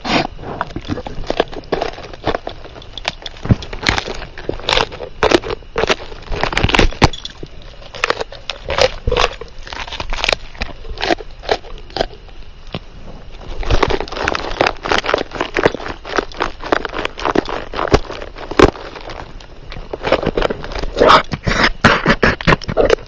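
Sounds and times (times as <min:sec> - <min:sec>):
crunching and crackling: 0:00.0 - 0:23.0.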